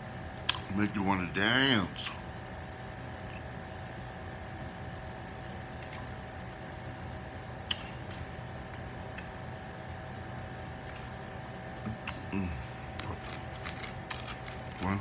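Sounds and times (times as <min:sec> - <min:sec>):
room hum: 0:00.0 - 0:15.0.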